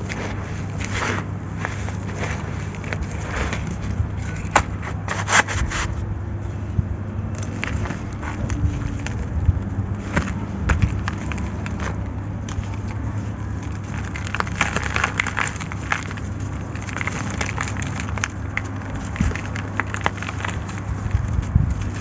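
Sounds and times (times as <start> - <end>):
concrete pieces crunching: 0.0 - 6.1, 7.2 - 22.0.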